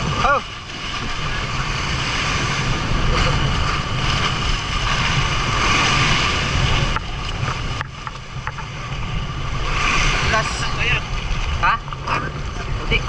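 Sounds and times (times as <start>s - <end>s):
low rumble: 0.0s - 13.0s
water noise: 0.0s - 13.0s
wind on microphone: 0.0s - 13.0s.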